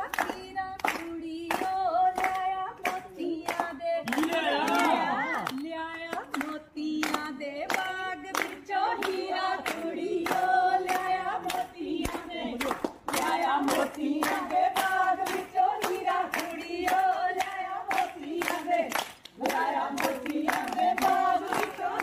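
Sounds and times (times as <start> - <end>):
rhythmic hand-clapping: 0.0 - 22.0
women singing folk song: 0.0 - 22.0.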